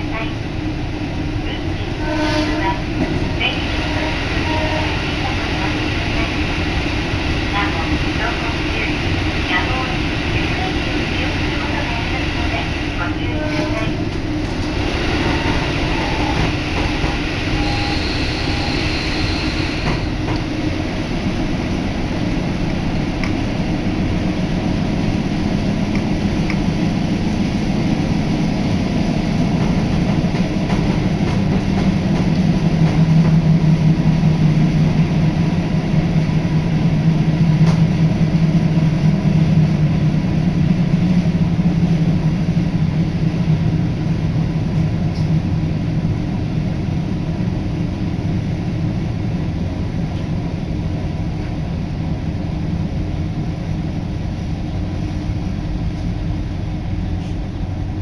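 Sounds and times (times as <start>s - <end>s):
train rumble from inside carriage: 0.0s - 58.0s.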